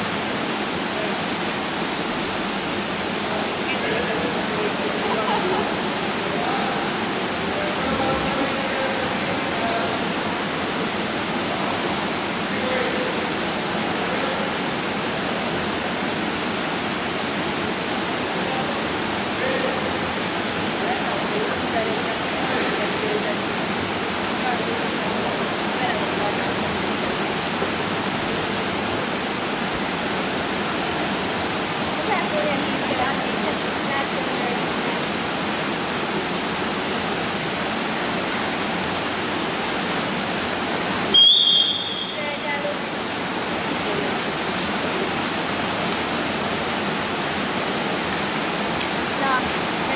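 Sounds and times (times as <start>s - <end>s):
swimming pool hall ambience: 0.0s - 49.9s.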